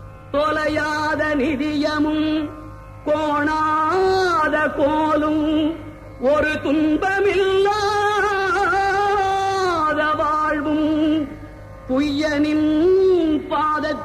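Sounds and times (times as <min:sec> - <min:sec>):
solo devotional singing: 0:00.3 - 0:14.0.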